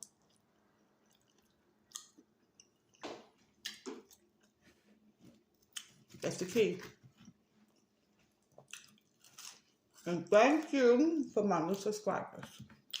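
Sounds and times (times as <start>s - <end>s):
faint chewing: 0.0s - 10.7s, 11.7s - 13.0s.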